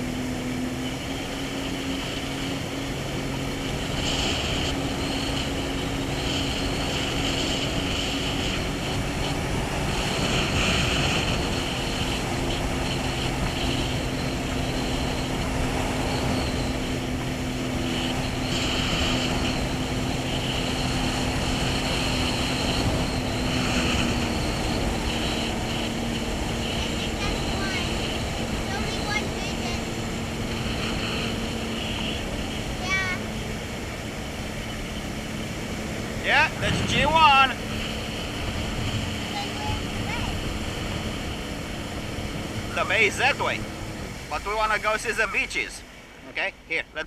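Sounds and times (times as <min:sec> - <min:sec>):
jet ski engine drone: 0:00.0 - 0:47.0
rush of wind and water: 0:00.0 - 0:47.0.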